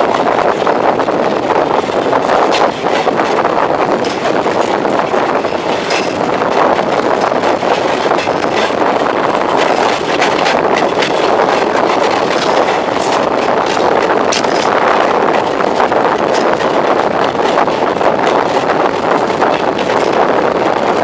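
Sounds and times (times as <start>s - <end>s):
passenger train running at speed: 0.0s - 21.0s.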